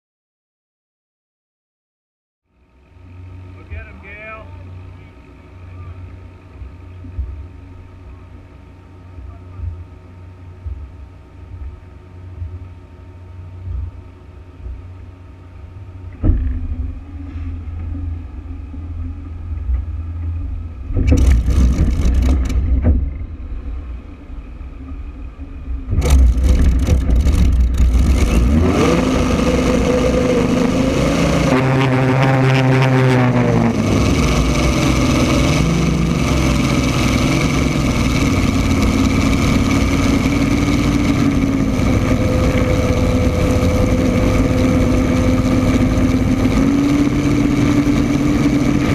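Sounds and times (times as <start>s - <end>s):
aircraft engine revving: 3.0s - 48.9s.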